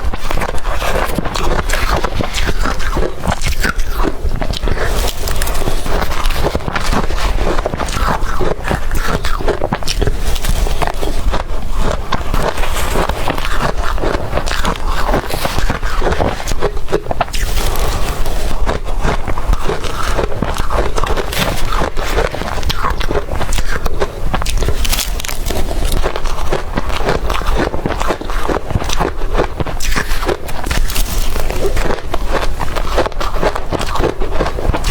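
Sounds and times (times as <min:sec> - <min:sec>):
crushed ice being chewed: 0:00.0 - 0:34.9.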